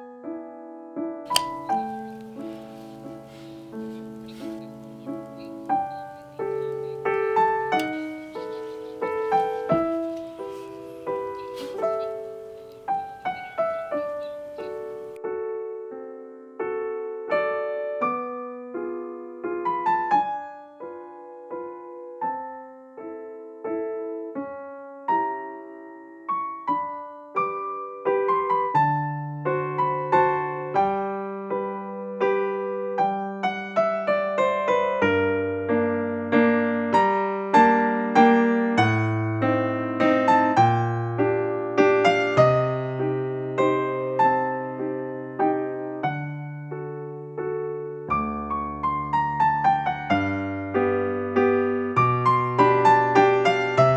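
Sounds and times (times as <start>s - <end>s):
gentle piano melody: 1.3s - 16.5s, 17.1s - 53.9s.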